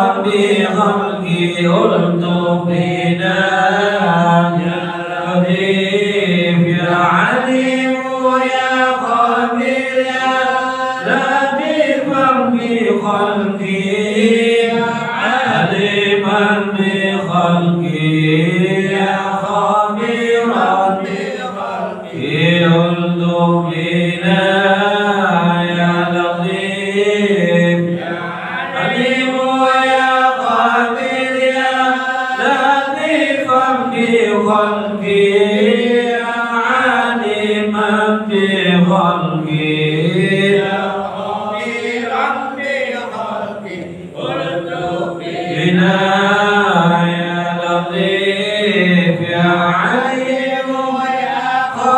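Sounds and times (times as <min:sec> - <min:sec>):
devotional chanting: 0:00.0 - 0:51.9.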